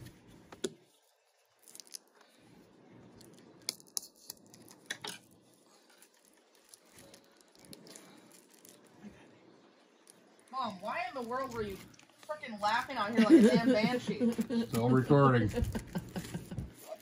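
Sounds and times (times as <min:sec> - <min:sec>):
plastic packaging crinkling: 0:00.8 - 0:17.0.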